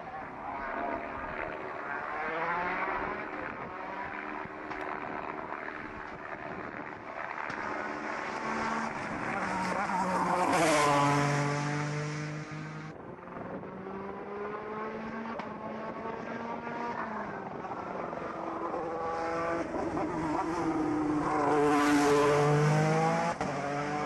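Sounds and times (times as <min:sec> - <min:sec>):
race car engine at full throttle: 0:00.0 - 0:24.0.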